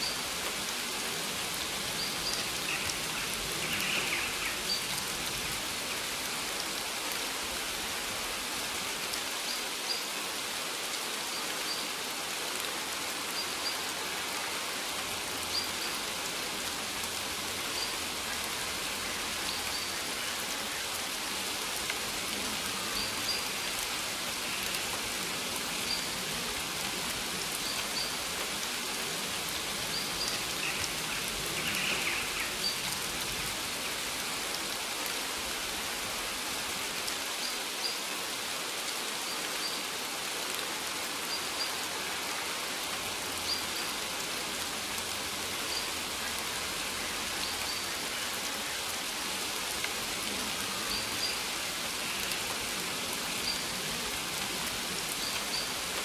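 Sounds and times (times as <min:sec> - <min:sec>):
rain pattering on plants: 0:00.0 - 0:56.0.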